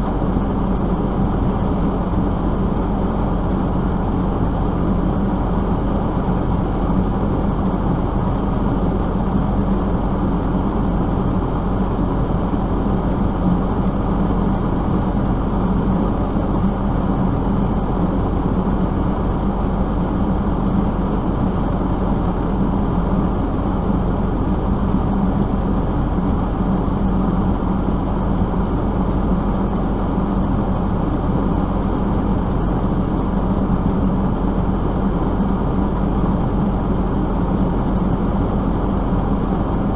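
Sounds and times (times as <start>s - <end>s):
road noise: 0.0s - 39.9s
vehicle engine drone: 0.0s - 39.9s.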